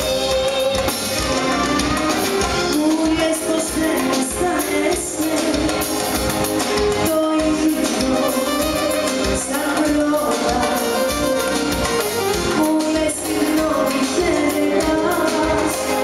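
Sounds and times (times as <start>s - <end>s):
woman singing into a microphone: 0.0s - 6.2s, 6.8s - 16.0s
band with drums and bouzouki: 0.0s - 16.0s.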